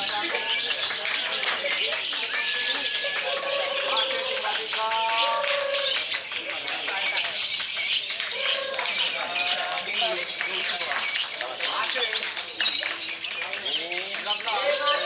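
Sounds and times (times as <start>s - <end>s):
lovebirds chirping and trilling: 0.0s - 15.0s
voices: 0.0s - 15.0s.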